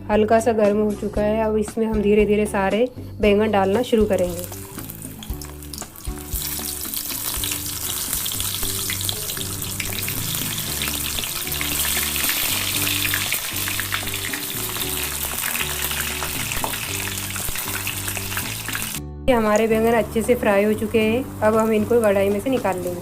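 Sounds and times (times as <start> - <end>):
soft background music: 0.0 - 23.0
eggplants sizzling in oil: 4.0 - 23.0.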